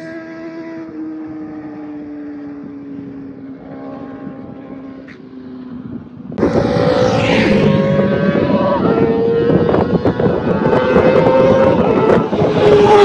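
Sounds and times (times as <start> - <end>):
loud engine with wind noise: 0.0 - 13.0.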